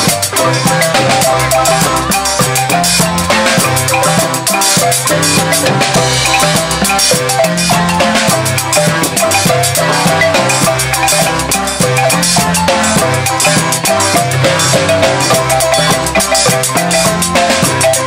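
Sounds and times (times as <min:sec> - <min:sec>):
bass marimba notes: 0:00.0 - 0:18.0
marimbas playing interlocking rhythm: 0:00.0 - 0:18.0
percussion: 0:00.0 - 0:18.0.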